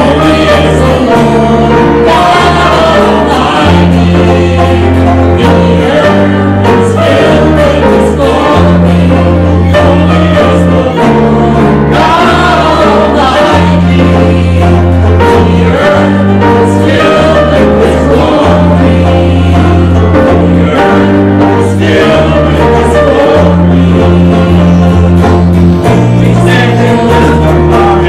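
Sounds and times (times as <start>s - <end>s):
band and congregation singing: 0.0s - 28.0s
sustained bass notes: 0.0s - 28.0s.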